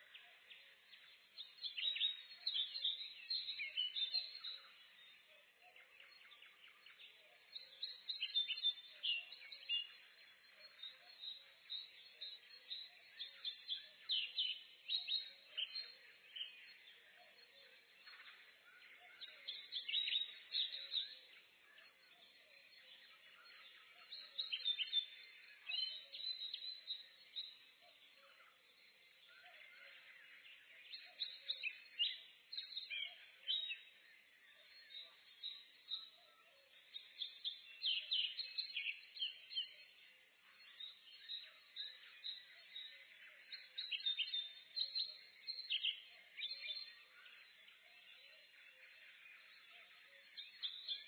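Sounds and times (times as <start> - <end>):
songbirds chirping and trilling: 0.0 - 51.0.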